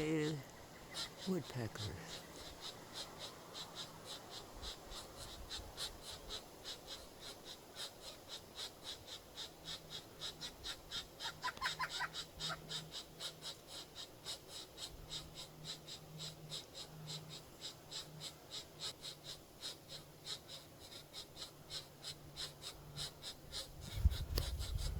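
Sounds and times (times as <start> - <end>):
woodpecker nestlings begging: 0.0 - 24.9.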